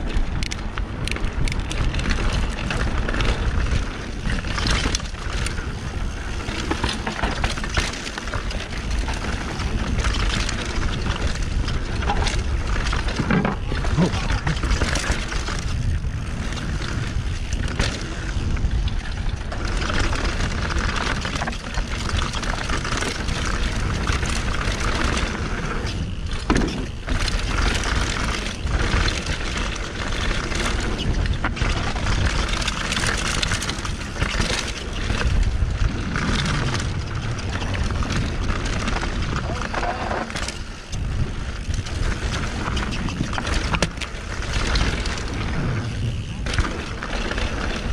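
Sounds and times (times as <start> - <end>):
bike knocking and rattling: 0.0 - 47.9
wind on microphone: 8.4 - 47.0.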